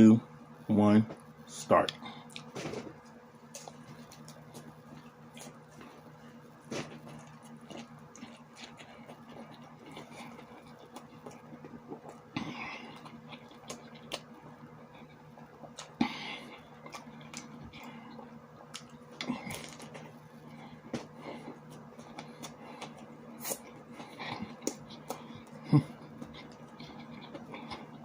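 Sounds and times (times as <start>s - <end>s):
steady low hum: 0.0s - 28.0s
person chewing: 1.9s - 2.8s, 3.5s - 28.0s.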